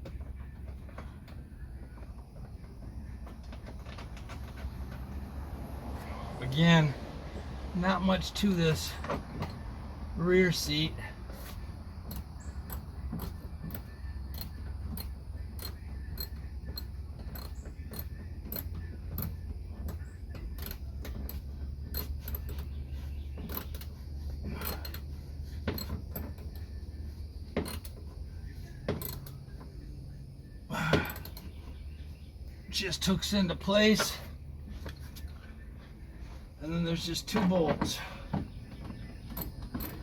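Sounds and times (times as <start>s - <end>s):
seat clicks and creaks: 0.0s - 9.8s, 10.4s - 30.1s, 30.9s - 40.0s
steady low hum: 0.0s - 40.0s.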